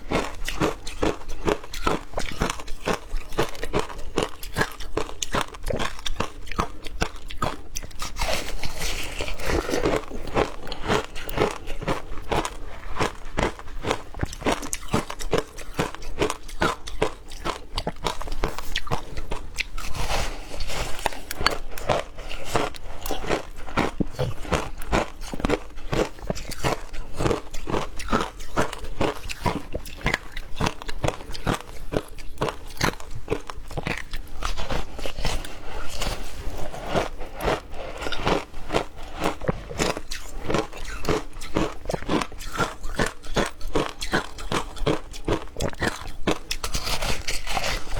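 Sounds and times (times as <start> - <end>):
ice crunching between teeth: 0.0 - 47.9.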